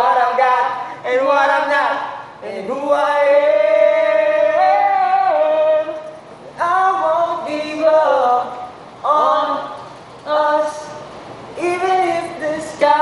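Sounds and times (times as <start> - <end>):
man singing without words: 0.0 - 11.0, 11.6 - 13.0.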